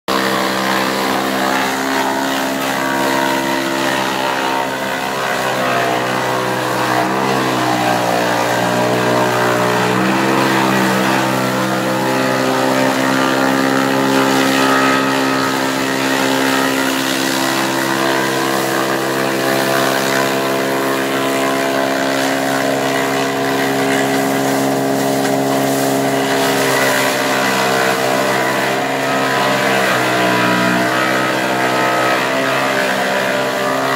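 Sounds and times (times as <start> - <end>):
forage chopper running: 0.0 - 33.9.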